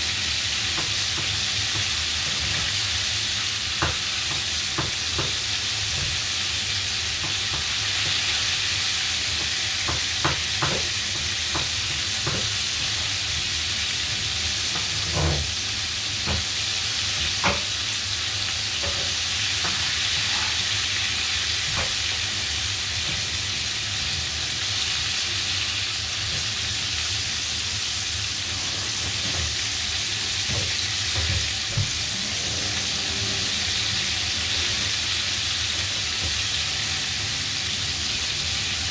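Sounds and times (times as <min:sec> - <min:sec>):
chicken sizzling in oil: 0:00.0 - 0:38.9.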